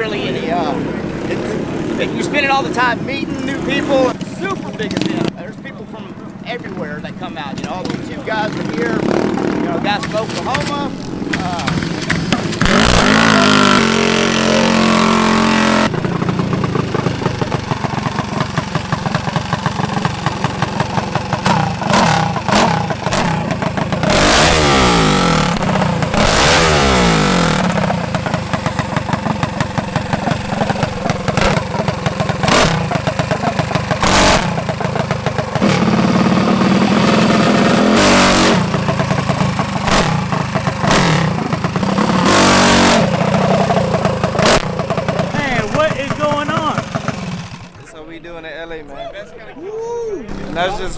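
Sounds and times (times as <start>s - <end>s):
minibike engine revving: 0.0s - 5.5s, 6.4s - 47.8s.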